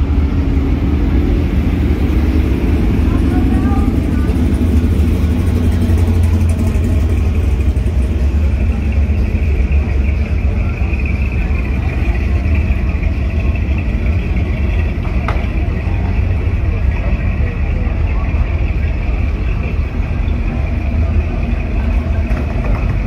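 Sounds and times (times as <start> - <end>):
pickup truck engine rumbling: 0.0 - 23.0.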